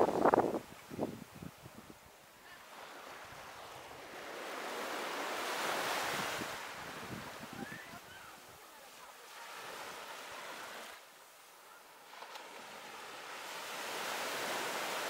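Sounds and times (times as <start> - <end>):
sea waves washing onto beach: 0.0 - 15.0.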